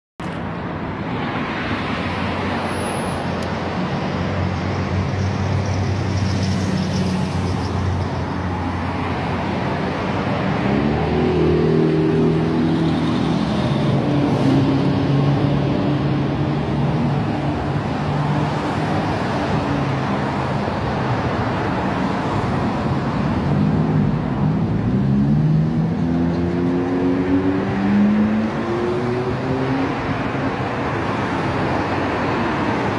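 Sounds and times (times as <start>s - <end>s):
road traffic: 0.2s - 32.9s.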